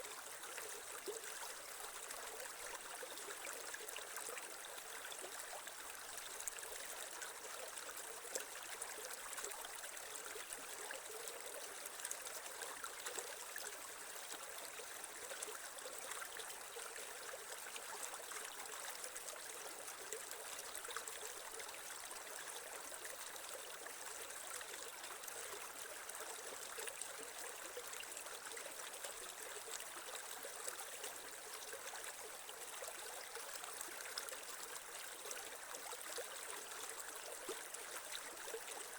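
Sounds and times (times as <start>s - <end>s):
creek water flowing: 0.0s - 38.9s.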